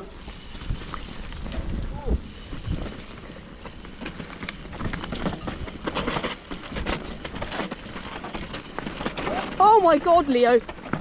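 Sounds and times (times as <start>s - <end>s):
bike rattling over bumps: 0.0s - 11.0s
bike tyres crunching over dirt: 0.0s - 11.0s.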